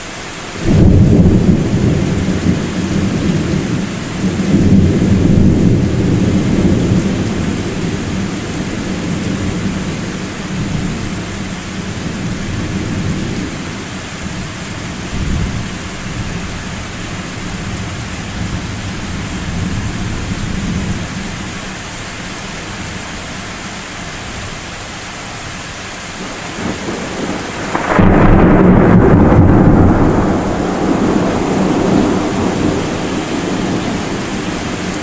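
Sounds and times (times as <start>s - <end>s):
rain hissing: 0.0s - 35.0s
thunder rumbling: 0.6s - 23.4s, 25.4s - 35.0s.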